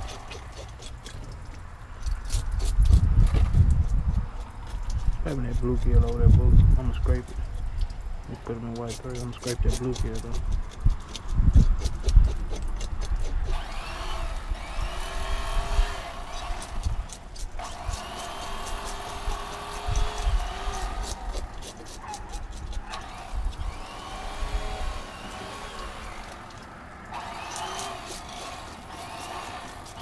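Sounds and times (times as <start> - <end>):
fish scaler scraping scales: 0.0 - 30.0.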